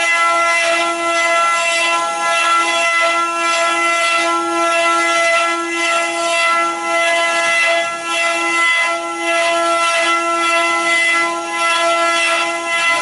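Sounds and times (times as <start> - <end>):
router spindles high whine: 0.0 - 13.0.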